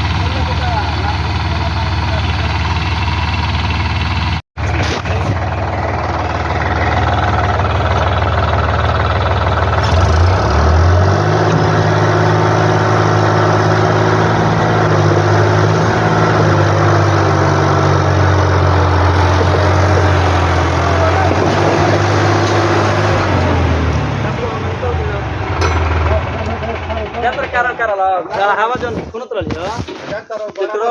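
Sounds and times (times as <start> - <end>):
diesel engine running: 0.0 - 29.1.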